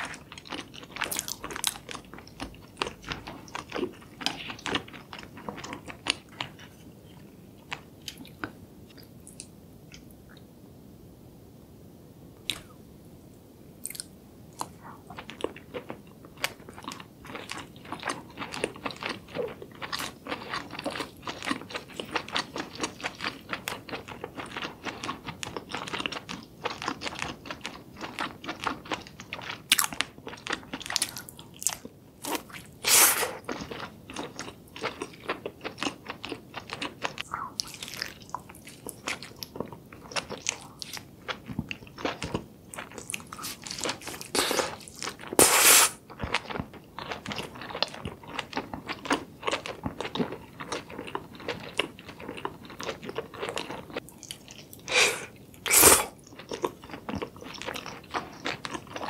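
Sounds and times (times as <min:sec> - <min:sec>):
person chewing close up: 0:00.0 - 0:10.0, 0:13.8 - 0:59.0.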